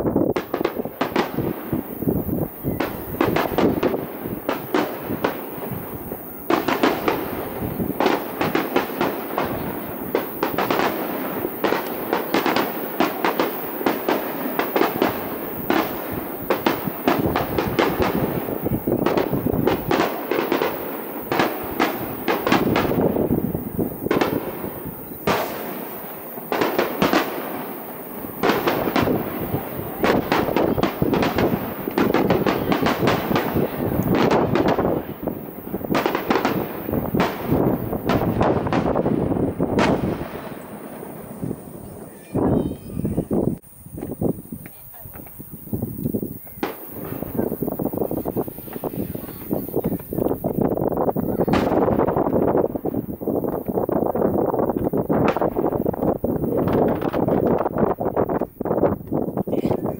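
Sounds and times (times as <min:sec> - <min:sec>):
fireworks cracks and bangs: 0:00.0 - 0:59.9.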